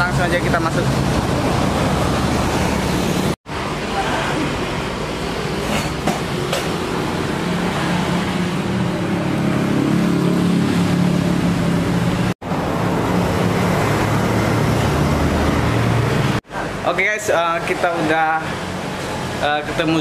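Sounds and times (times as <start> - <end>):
motor traffic hum: 0.0 - 20.0.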